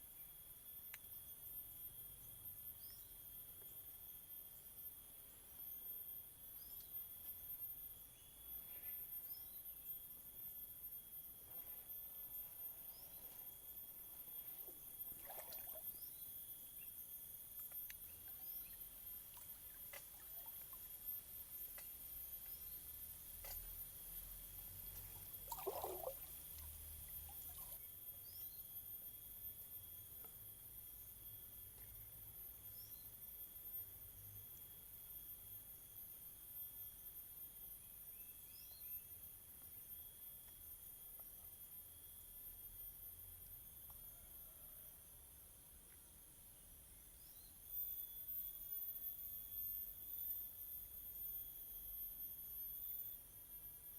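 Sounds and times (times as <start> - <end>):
insect chorus: 0.0 - 53.9.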